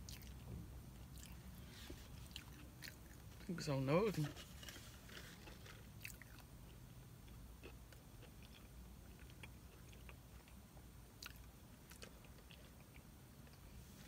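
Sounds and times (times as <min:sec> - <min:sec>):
mouth chewing crispy food: 0:00.0 - 0:03.5, 0:04.6 - 0:13.8
low steady hum: 0:00.0 - 0:14.0.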